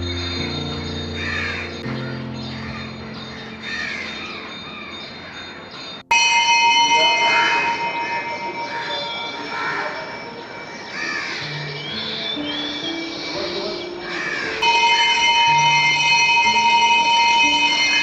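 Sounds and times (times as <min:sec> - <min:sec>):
crows cawing: 0:01.1 - 0:05.9, 0:07.3 - 0:18.0.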